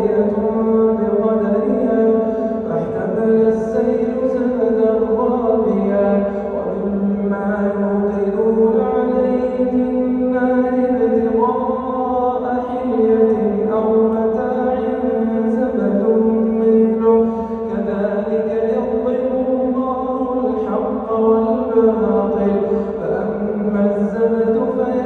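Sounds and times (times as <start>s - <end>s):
man chanting melodic recitation: 0.0s - 25.0s.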